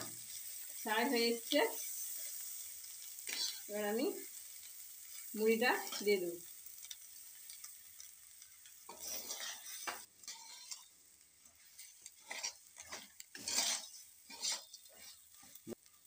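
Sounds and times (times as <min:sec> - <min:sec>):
metal spatula stirring puffed rice: 0:00.0 - 0:16.0.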